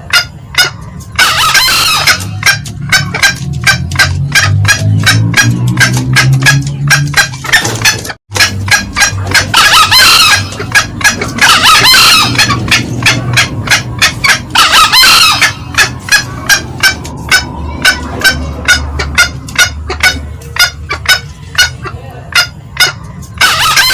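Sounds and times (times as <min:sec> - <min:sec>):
junglefowl cackling: 0:00.0 - 0:23.9
junglefowl crowing: 0:00.0 - 0:23.9.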